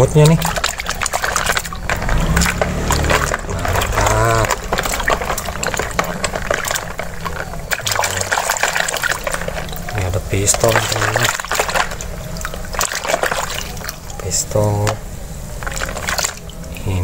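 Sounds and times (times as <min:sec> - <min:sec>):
hands splashing soapy water: 0:00.0 - 0:17.0
water dripping: 0:00.0 - 0:17.0.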